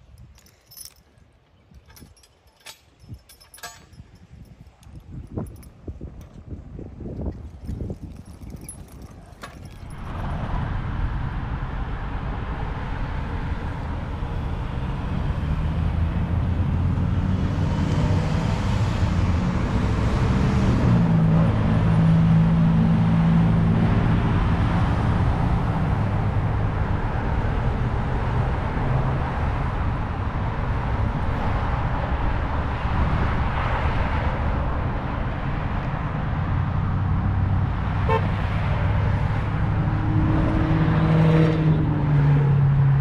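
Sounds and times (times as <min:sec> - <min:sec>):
car engines passing: 0:07.2 - 0:43.0.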